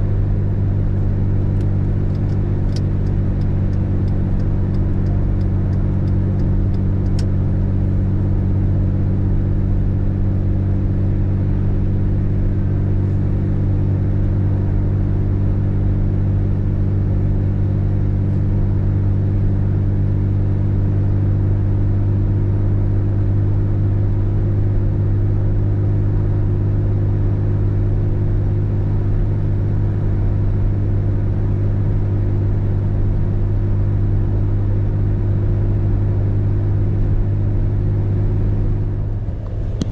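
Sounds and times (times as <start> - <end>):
car cabin engine and road drone: 0.0 - 39.9.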